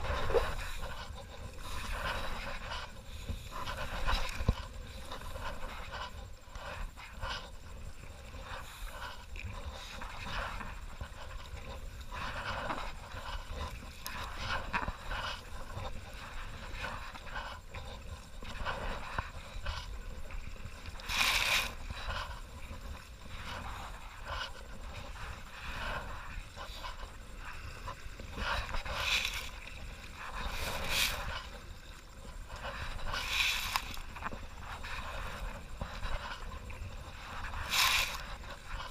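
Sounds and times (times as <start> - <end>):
kayak paddle strokes: 0.0 - 38.9
steady low rumble: 0.0 - 38.9.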